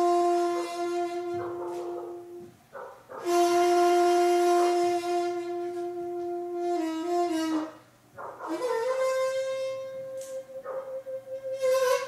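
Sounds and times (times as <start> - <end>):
bamboo flute holding notes: 0.0 - 2.5, 3.2 - 12.0.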